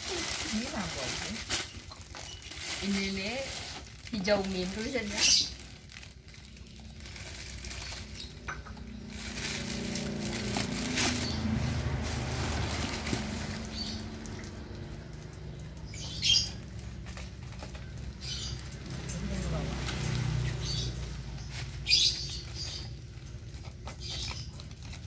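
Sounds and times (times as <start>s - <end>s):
plastic wrapping crinkling: 0.0s - 25.0s
sharp crackle: 0.0s - 25.0s.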